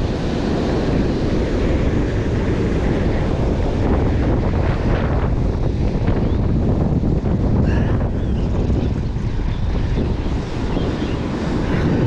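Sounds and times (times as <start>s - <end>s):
surf breaking on shore: 0.0s - 12.0s
wind on microphone: 0.0s - 12.0s.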